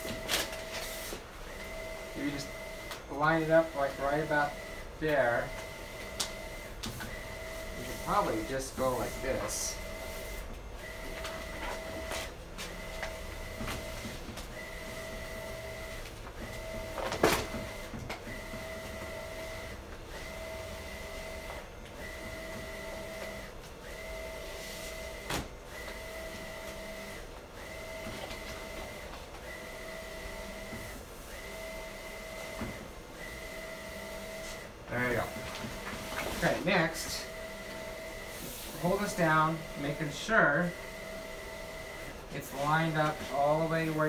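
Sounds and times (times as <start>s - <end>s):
printer carriage whining: 0.0s - 44.0s.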